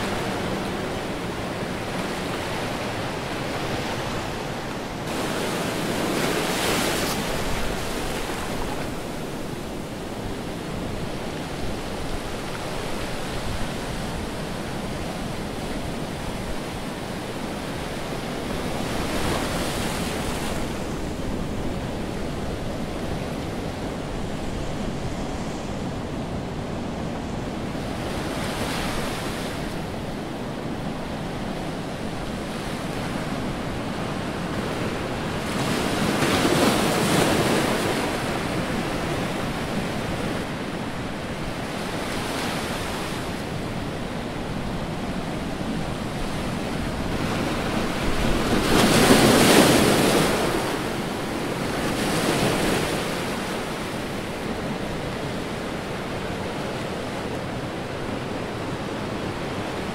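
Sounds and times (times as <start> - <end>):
ocean surf breaking on rocks: 0.0 - 59.9.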